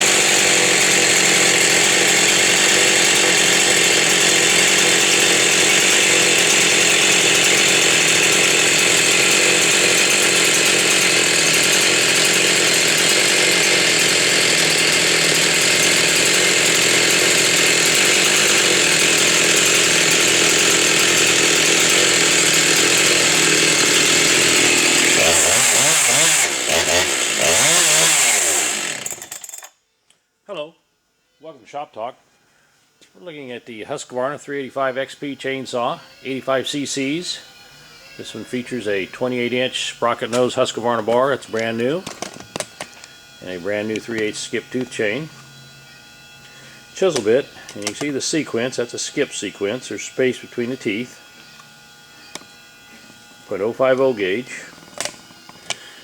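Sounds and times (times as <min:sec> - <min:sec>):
chainsaw engine revving: 0:00.0 - 0:29.7, 0:34.4 - 0:37.5, 0:38.1 - 0:56.0.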